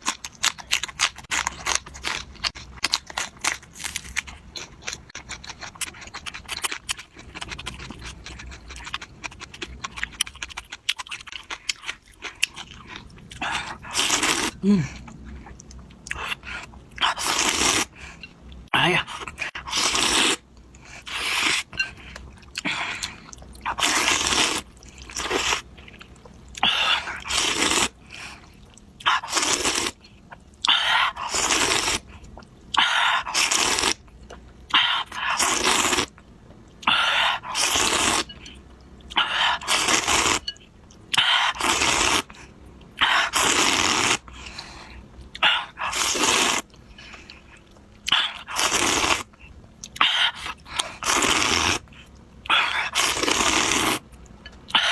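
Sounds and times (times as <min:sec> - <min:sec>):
slurping and chewing noodles: 0:00.0 - 0:18.3, 0:19.0 - 0:36.2, 0:36.8 - 0:54.9.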